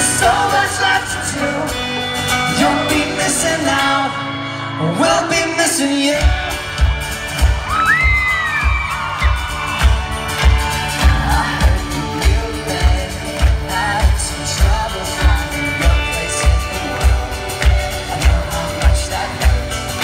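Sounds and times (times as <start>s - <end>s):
person singing: 0.0s - 6.8s, 10.3s - 20.0s
pop-punk band playing live: 0.0s - 20.0s.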